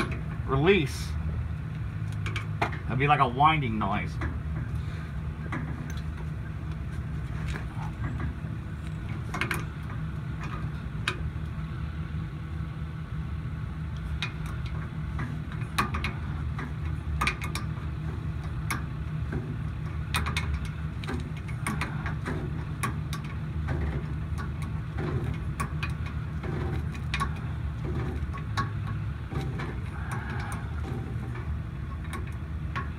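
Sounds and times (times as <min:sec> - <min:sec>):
truck engine idling: 0:00.0 - 0:32.9.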